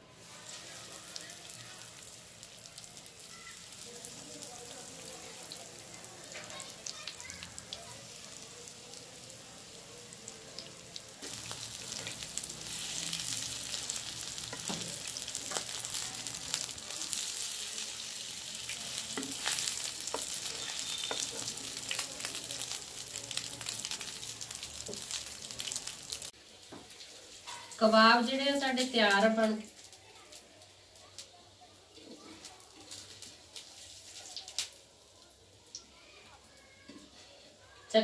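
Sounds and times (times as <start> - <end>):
patties sizzling in hot oil: 0.0 - 38.0.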